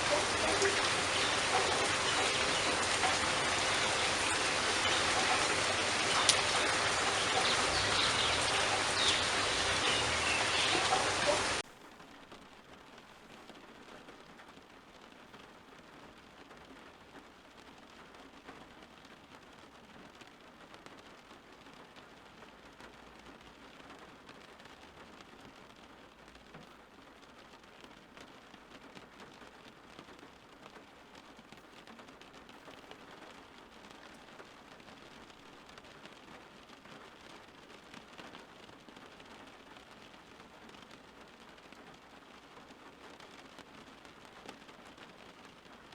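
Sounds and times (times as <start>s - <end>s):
light rain on leaves: 0.0s - 45.9s.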